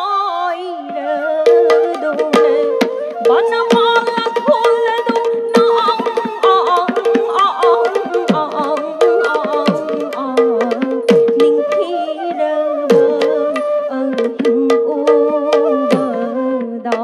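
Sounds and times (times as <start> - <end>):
flute: 0.2 - 17.0.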